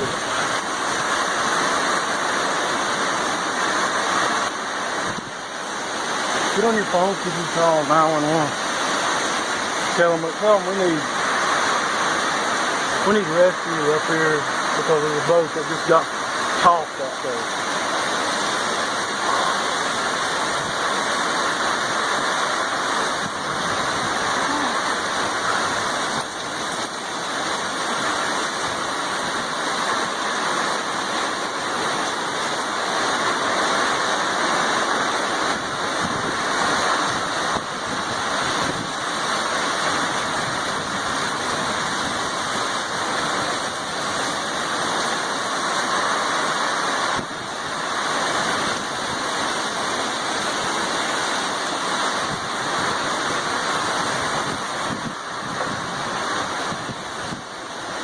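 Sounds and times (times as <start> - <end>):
heavy rain: 0.0 - 58.0
wind: 0.0 - 58.0.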